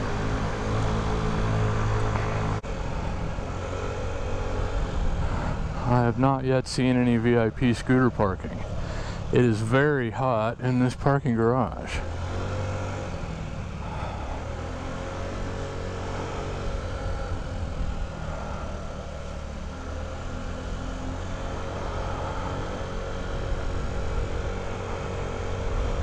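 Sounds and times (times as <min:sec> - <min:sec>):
scooter engine running: 0:00.0 - 0:09.5, 0:11.9 - 0:26.0.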